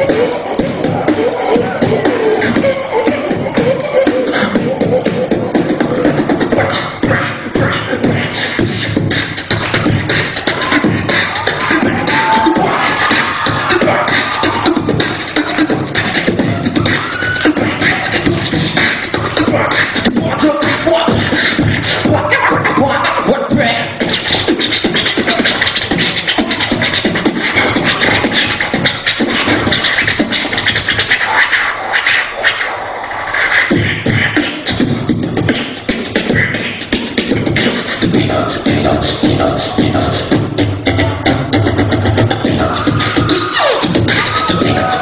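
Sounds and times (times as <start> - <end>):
person beatboxing: 0.0 - 45.0.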